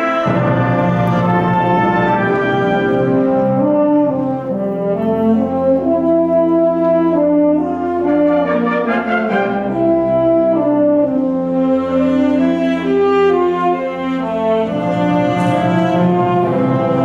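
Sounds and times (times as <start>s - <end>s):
wind band playing chords: 0.0s - 17.0s.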